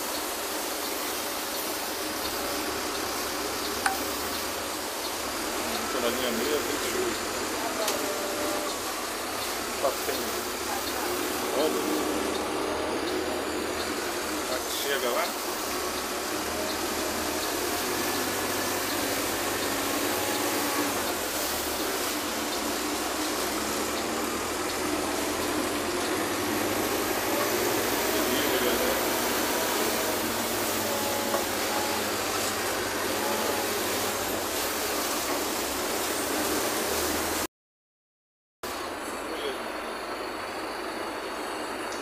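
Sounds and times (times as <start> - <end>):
bus engine running: 0.0 - 37.4
rain and floodwater rushing: 0.0 - 37.5.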